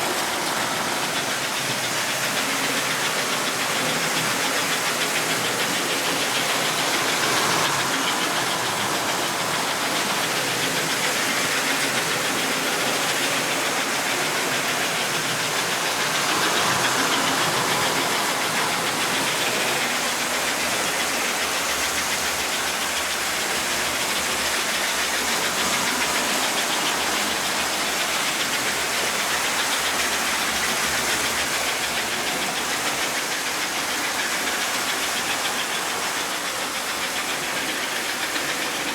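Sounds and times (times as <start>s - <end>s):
toy train motor whir and hiss: 0.0s - 38.9s.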